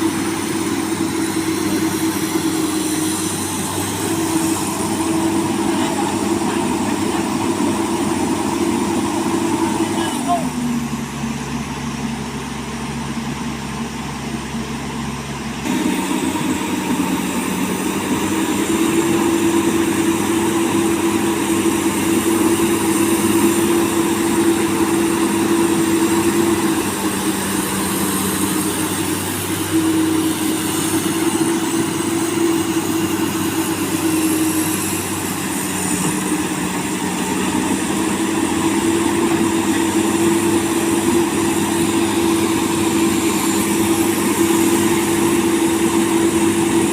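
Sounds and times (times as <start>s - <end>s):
excavator diesel engine under load: 0.0s - 46.9s.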